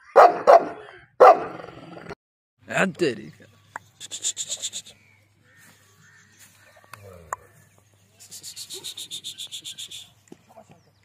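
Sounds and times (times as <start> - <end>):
faint farmyard sounds: 0.0 - 2.0, 2.7 - 11.0.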